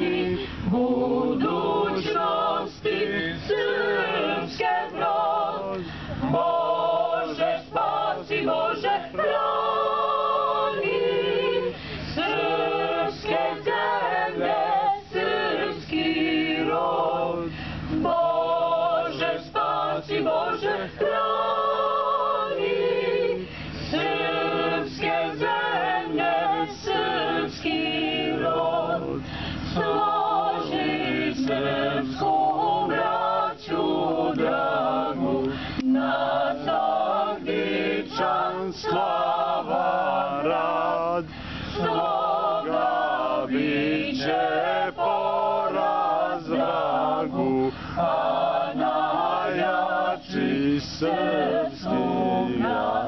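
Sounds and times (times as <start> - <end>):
mixed choir singing a cappella: 0.0 - 53.0.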